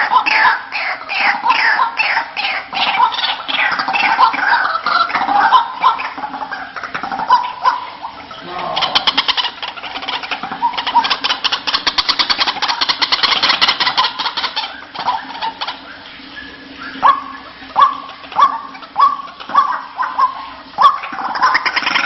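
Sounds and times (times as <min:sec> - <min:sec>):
sharp kwak calls: 0:00.0 - 0:22.0
waterhens chattering croaks: 0:00.0 - 0:22.0.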